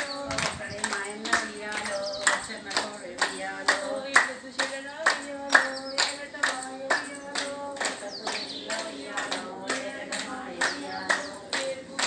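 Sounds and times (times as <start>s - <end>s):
women clapping in unison: 0.0s - 12.0s
women singing folk song: 0.0s - 12.0s.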